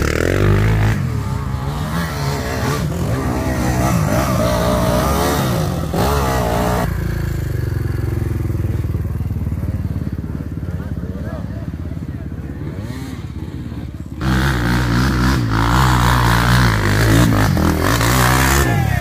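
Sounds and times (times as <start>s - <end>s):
off-road engines revving: 0.0s - 19.0s.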